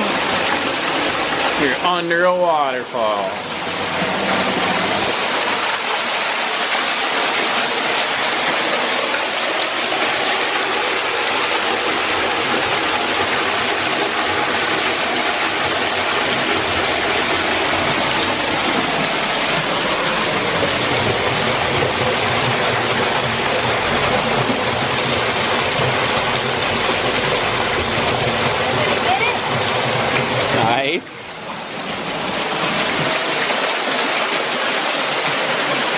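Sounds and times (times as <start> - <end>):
waterfall splashing into pool: 0.0 - 35.9.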